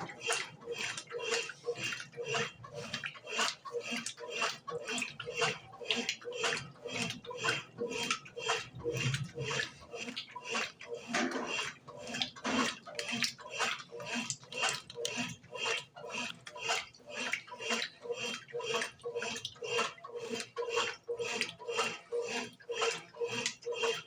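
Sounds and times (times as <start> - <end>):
washing machine water sloshing: 0.0 - 24.0.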